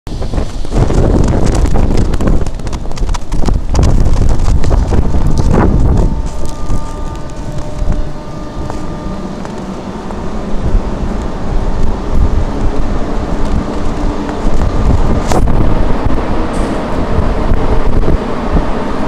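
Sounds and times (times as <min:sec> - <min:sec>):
electric locomotive rumble: 0:00.1 - 0:19.0
wind buffeting microphone: 0:00.1 - 0:19.0.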